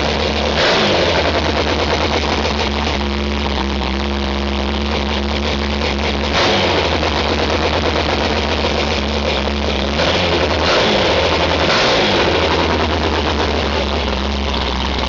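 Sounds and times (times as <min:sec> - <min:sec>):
loud engine running: 0:00.0 - 0:15.0.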